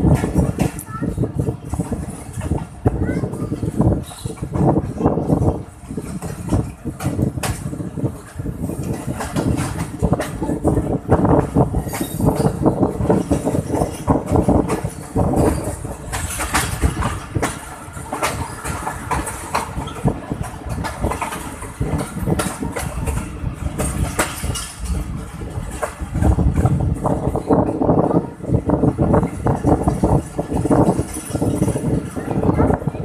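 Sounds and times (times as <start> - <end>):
continuous rushing rumble: 0.0 - 33.0
train wheels clattering on rails: 0.0 - 33.0.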